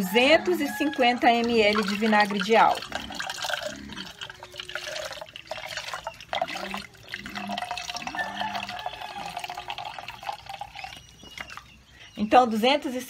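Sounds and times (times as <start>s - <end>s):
liquid pouring into plastic jug: 0.5s - 11.8s.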